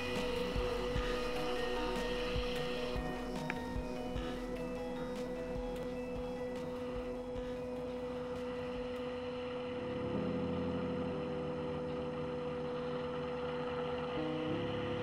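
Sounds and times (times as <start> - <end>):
held synth chords: 0.0 - 15.0
steady hum: 0.0 - 15.0.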